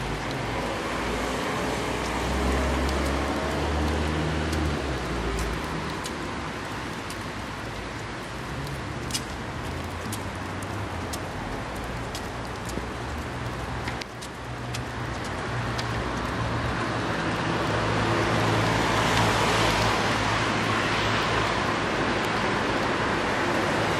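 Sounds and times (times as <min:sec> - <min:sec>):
low traffic hum: 0:00.0 - 0:23.9
tyre hiss on wet street: 0:00.0 - 0:23.9.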